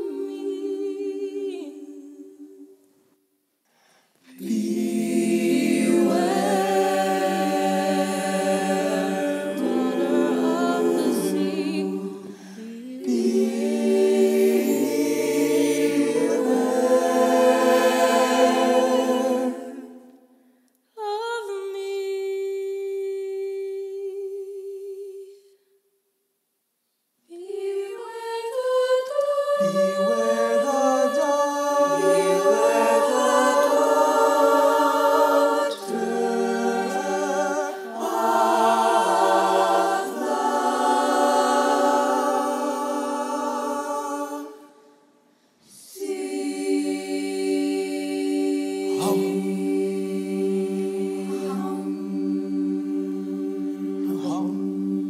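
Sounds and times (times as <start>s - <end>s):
choir singing: 0.0s - 2.8s, 4.3s - 20.3s, 21.0s - 25.4s, 27.3s - 45.1s, 45.7s - 55.0s.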